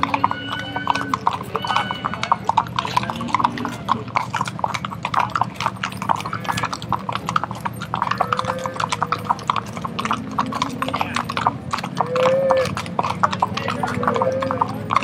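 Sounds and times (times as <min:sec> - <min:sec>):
horse hooves on pavement: 0:00.0 - 0:15.0.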